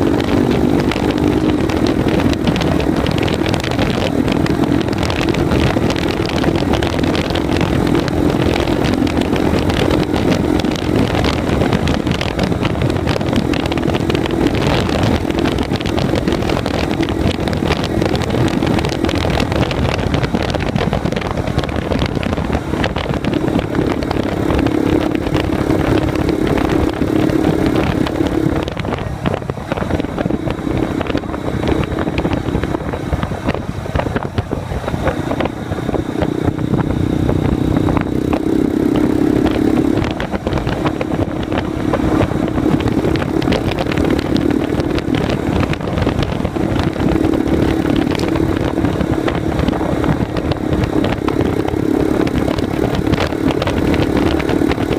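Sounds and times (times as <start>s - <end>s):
motorcycle engine running loudly: 0.0s - 54.9s.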